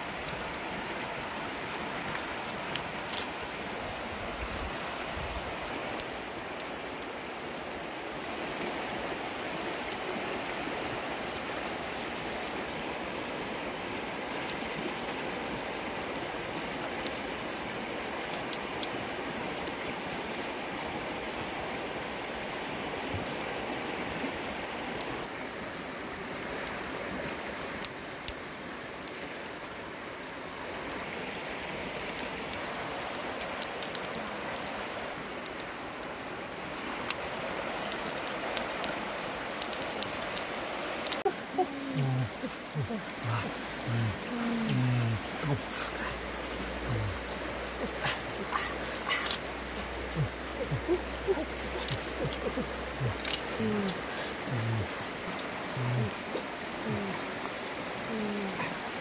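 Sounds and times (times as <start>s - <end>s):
campfire crackling: 0.0s - 59.0s
river running over rocks: 0.0s - 59.0s.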